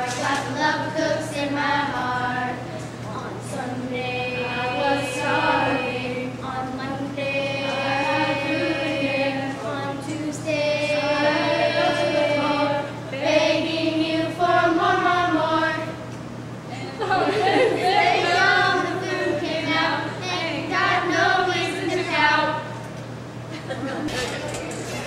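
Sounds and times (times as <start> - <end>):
girls singing together: 0.0 - 16.0, 16.8 - 22.8.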